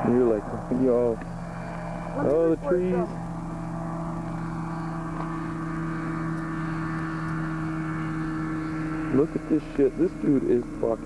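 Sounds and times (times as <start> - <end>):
propeller aircraft engine humming: 0.0 - 11.0.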